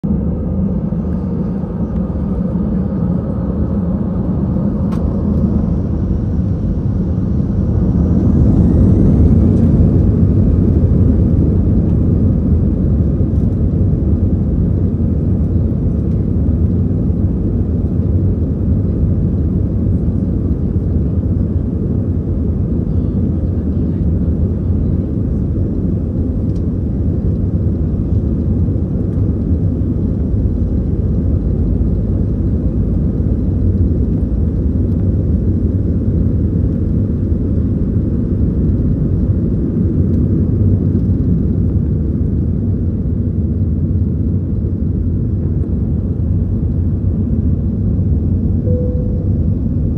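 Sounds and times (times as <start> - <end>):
jet engines rumbling in cabin: 0.0 - 49.9.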